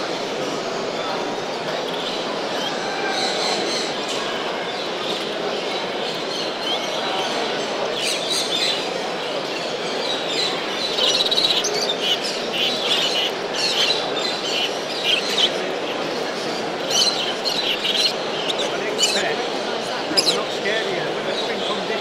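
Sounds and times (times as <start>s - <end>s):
crowd din in a hall: 0.0s - 22.0s
birds chirping and calling: 1.0s - 22.0s.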